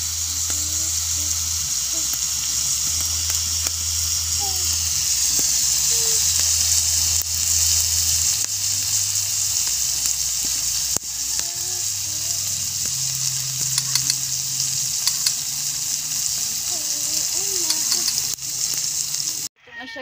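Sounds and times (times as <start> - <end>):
grubs sizzling in a pan: 0.0 - 19.5
sharp popping of frying: 0.0 - 19.5.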